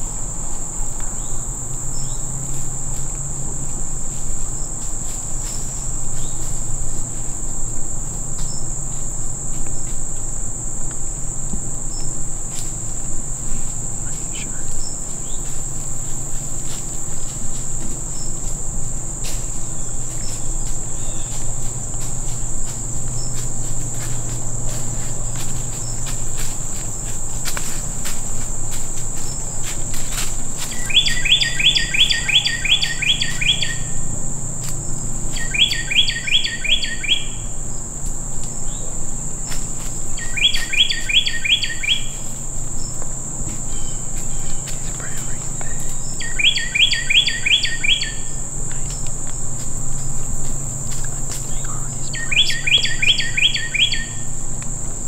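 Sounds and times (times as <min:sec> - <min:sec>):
crickets chirping: 0:00.0 - 0:55.0
leaves rustling: 0:00.0 - 0:55.0.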